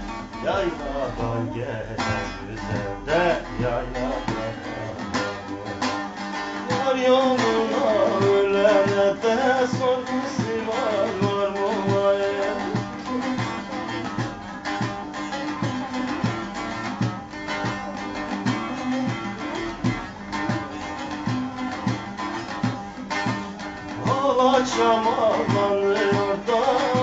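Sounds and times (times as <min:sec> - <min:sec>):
long-necked lute folk melody: 0:00.0 - 0:27.0.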